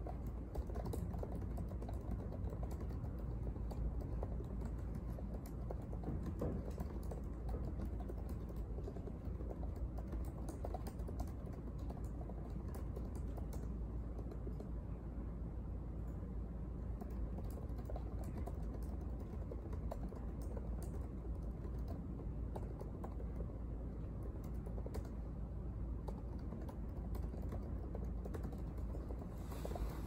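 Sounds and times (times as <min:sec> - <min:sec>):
typing on laptop keyboard: 0:00.0 - 0:14.8, 0:16.9 - 0:25.2, 0:26.0 - 0:30.0
low room hum: 0:00.0 - 0:30.0.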